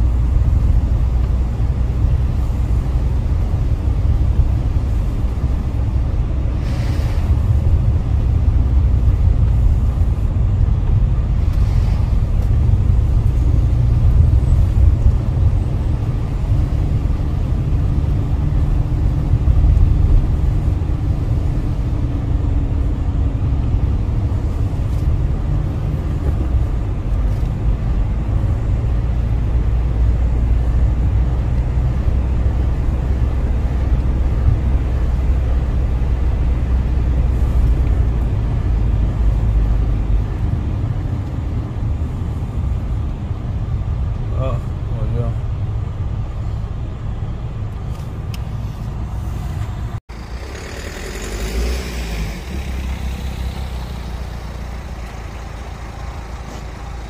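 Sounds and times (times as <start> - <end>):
car driving rumble inside cabin: 0.0 - 57.0.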